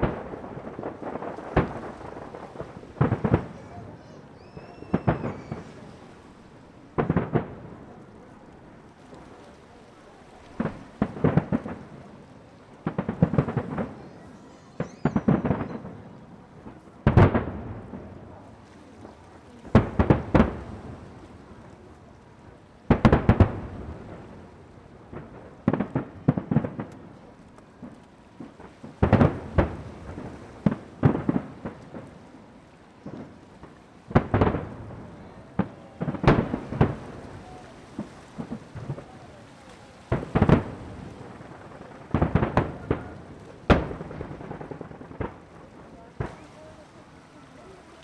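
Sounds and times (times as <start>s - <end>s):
fireworks booming: 0.0s - 48.0s
fireworks crackling: 0.0s - 48.0s.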